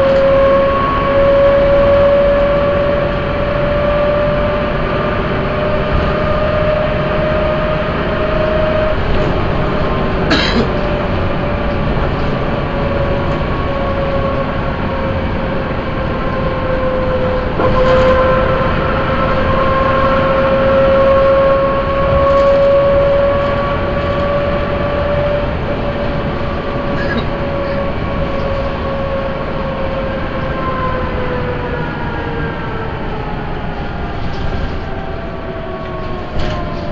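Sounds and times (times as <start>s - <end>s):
bus engine and road rumble: 0.0s - 36.9s
steady whine: 0.0s - 36.9s.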